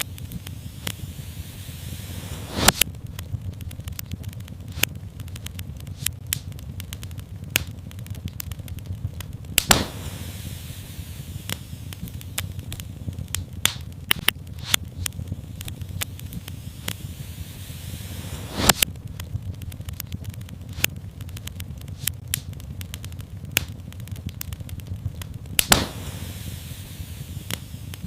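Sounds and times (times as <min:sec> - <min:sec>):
low rumble of flames: 0:00.0 - 0:28.0
sharp pops and snaps: 0:00.0 - 0:28.0
wood fire crackling: 0:00.0 - 0:28.0.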